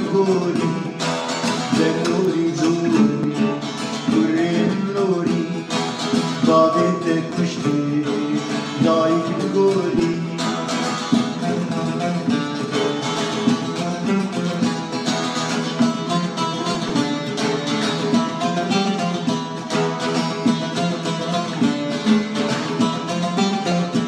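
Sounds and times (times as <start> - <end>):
plucked string instrument music: 0.0 - 24.0.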